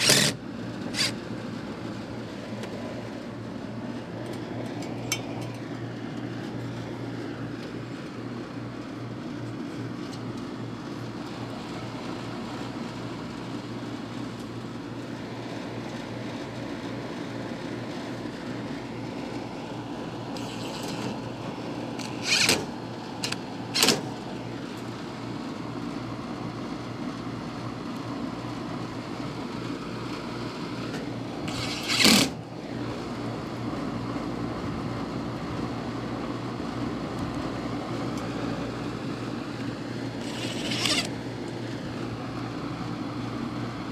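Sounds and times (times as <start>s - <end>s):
air conditioner unit humming: 0.0s - 43.9s.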